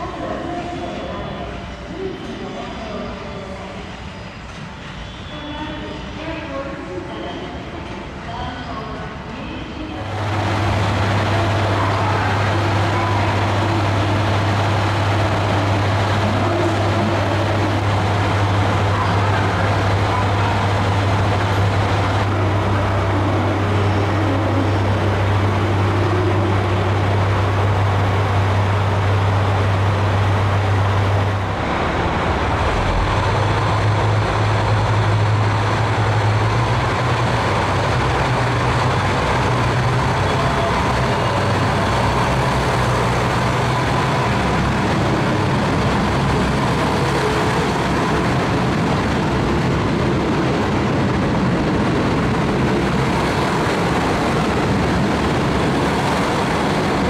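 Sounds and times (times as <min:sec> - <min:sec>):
diesel railcar engine running: 0:00.0 - 0:57.0.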